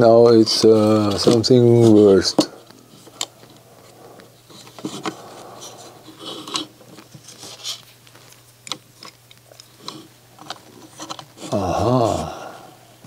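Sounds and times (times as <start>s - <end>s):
plastic parts scraping: 0.0s - 12.2s.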